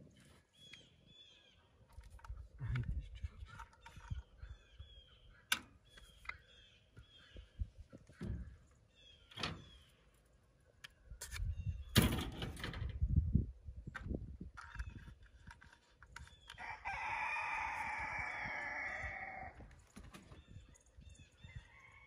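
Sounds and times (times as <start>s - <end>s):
birds chirping: 0.0s - 12.3s, 16.0s - 22.0s.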